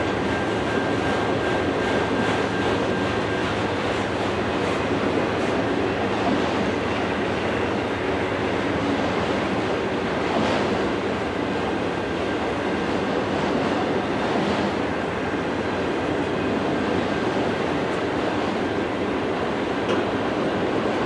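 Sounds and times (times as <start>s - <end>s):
steel wheels running on rails: 0.0s - 21.0s.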